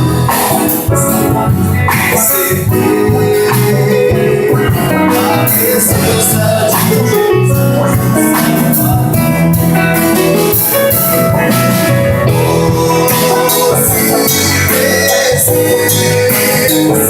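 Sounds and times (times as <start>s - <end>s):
drums: 0.0s - 17.0s
keyboard playing a slow hymn: 0.0s - 17.0s.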